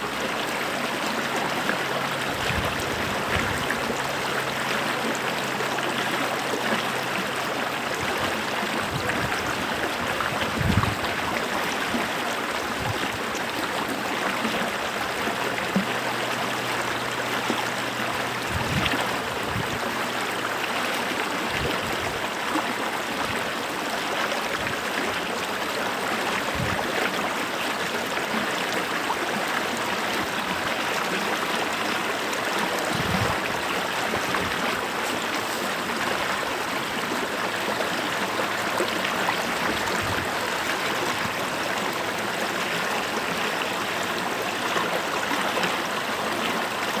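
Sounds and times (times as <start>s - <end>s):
stream flowing: 0.0s - 47.0s.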